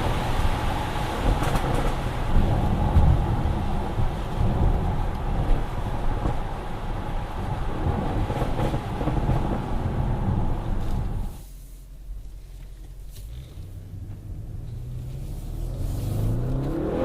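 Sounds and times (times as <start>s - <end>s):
car engine rumble: 0.0s - 17.0s
road and wind noise: 0.0s - 17.0s.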